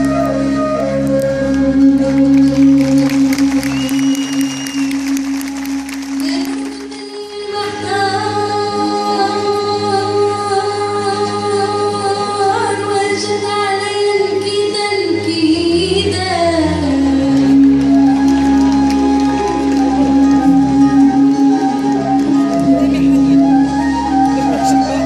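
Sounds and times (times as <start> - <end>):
violins: 0.0 - 25.0.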